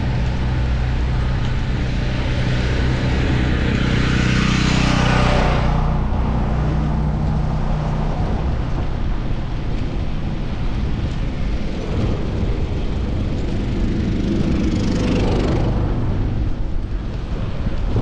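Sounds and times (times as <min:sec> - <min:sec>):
car traffic rumble: 0:00.0 - 0:18.0
vehicle passing: 0:00.0 - 0:18.0
wind noise on microphone: 0:00.0 - 0:18.0.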